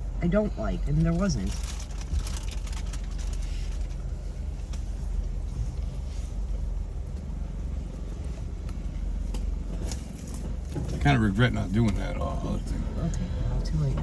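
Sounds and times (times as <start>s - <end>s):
engine and drivetrain rumble: 0.0s - 14.0s.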